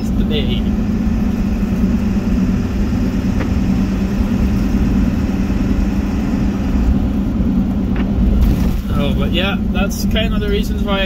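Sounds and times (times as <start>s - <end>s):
road rumble: 0.0s - 11.0s
truck engine hum: 0.0s - 11.0s.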